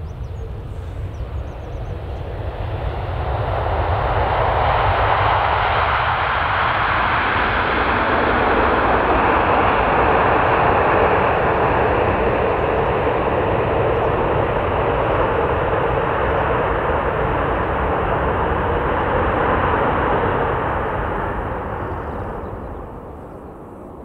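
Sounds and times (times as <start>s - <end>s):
jet engines of rolling airliner: 0.0s - 24.0s.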